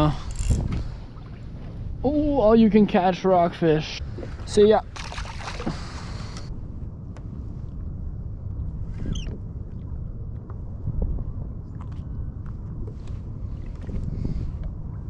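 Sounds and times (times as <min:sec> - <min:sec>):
wind rumbling on microphone: 0:00.0 - 0:15.0
water moving around kayak: 0:00.2 - 0:02.8, 0:03.9 - 0:15.0.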